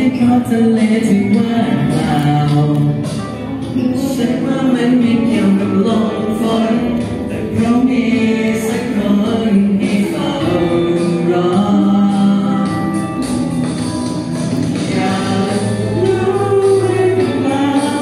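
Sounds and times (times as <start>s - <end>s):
backing track music: 0.0s - 18.0s
boys singing into microphones: 0.0s - 18.0s.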